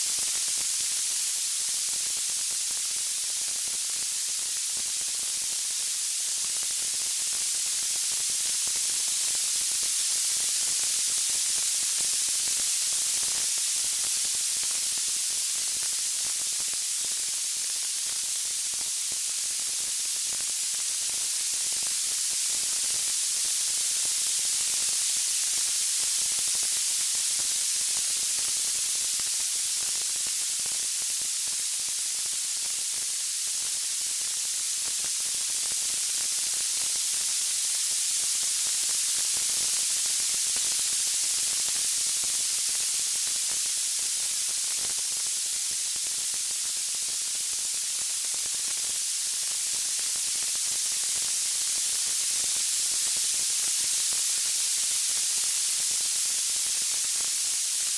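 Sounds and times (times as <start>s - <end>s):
high-pitched white-noise hiss: 0.0s - 57.9s.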